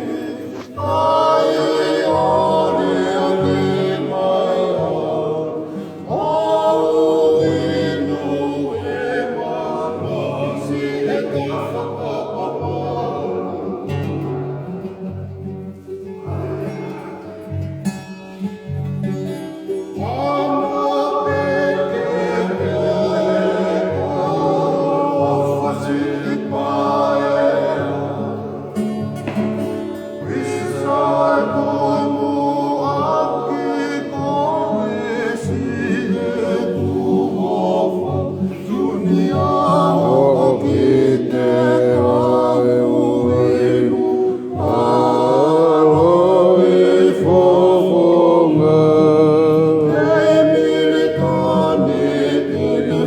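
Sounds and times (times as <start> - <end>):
group singing in harmony: 0.0 - 17.6, 19.0 - 53.0.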